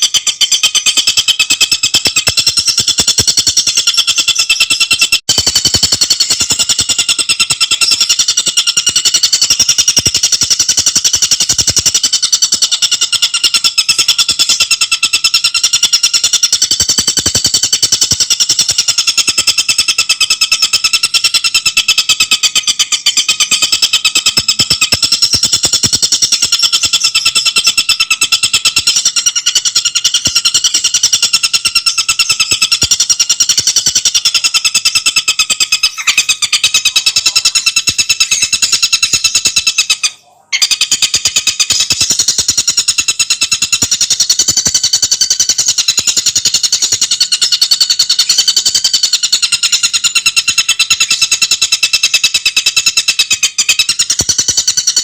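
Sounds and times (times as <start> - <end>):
bird singing rapid rattling song: 0.0 - 55.0.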